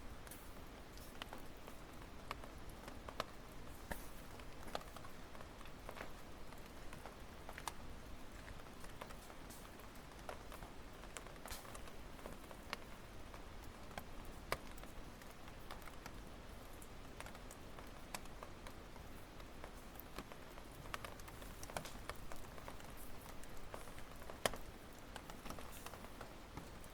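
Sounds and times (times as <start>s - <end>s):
campfire crackling and popping: 0.1s - 26.9s.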